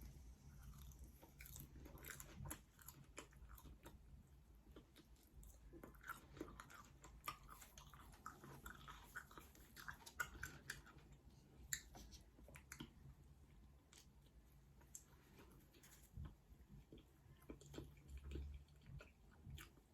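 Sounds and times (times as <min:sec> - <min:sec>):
person chewing crunchy food: 0:00.4 - 0:19.9.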